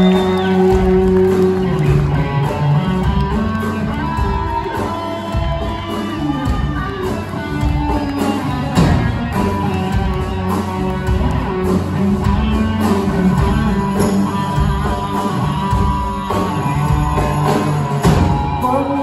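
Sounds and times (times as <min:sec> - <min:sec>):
audience noise: 0:00.0 - 0:19.0
live rock band playing: 0:00.0 - 0:19.0.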